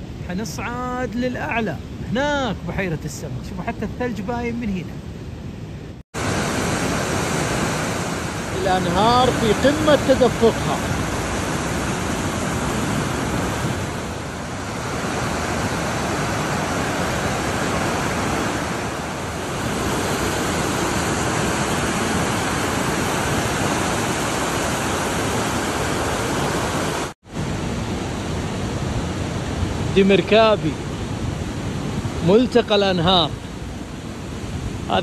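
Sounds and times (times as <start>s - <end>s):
river rushing over rocks: 6.2s - 35.0s.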